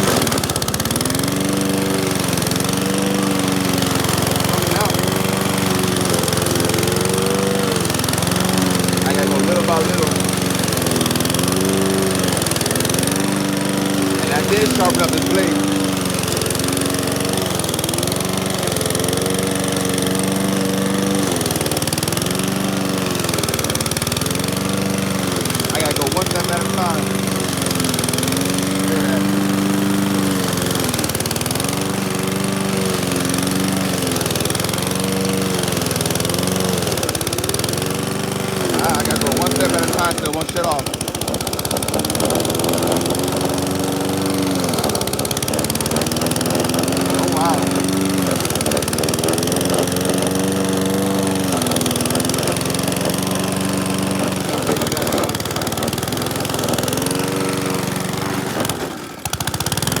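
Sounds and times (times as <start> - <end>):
lawn mower engine bogging down: 0.0 - 60.0.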